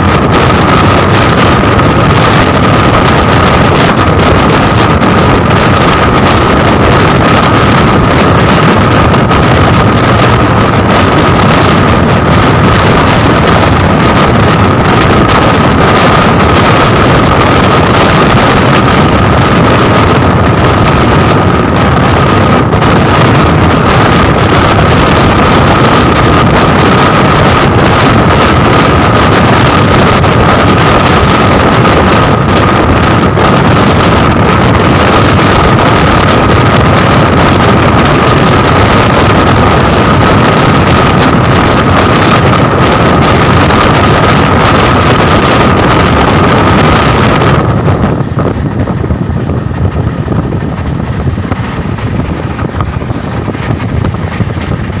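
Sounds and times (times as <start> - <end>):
high whine: 0.0 - 55.0
train rushing and rolling: 0.0 - 55.0.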